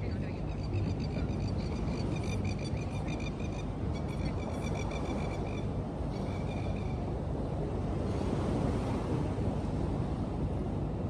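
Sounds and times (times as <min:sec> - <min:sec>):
surf on shore: 0:00.0 - 0:11.0
wind rumble on microphone: 0:00.0 - 0:11.0.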